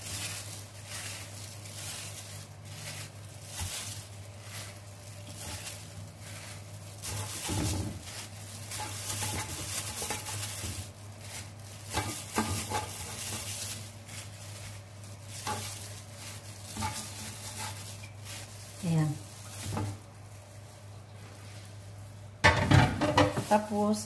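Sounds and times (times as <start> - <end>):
gloved hands rustling potato slices: 0.0 - 24.0.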